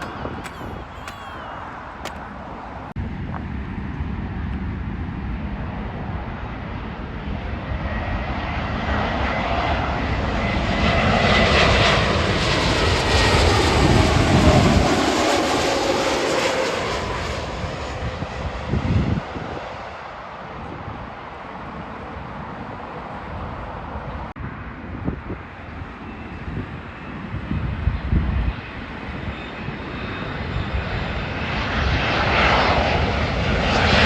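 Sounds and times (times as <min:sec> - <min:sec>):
jet airliner flying past: 0:00.0 - 0:34.0.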